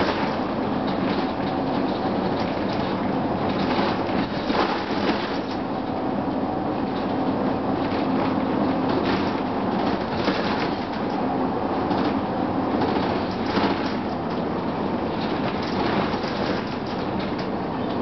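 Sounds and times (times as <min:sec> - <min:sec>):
bus body rattling: 0:00.0 - 0:18.0
bus engine drone: 0:00.0 - 0:18.0.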